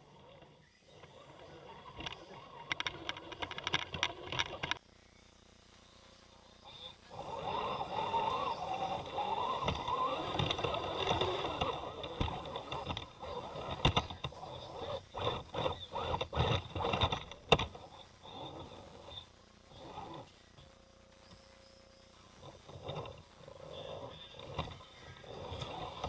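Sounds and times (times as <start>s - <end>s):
rc car motor whining: 0.0s - 26.0s.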